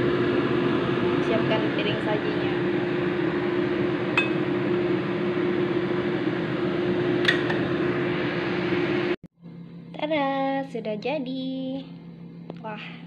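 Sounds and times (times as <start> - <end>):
loud kitchen hum: 0.0 - 13.0.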